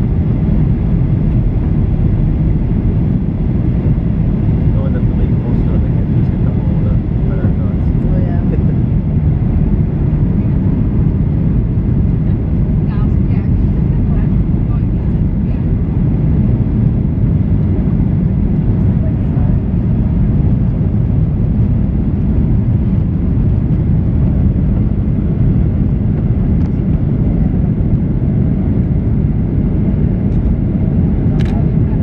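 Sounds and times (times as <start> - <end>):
airplane cabin engine noise: 0.0 - 32.0.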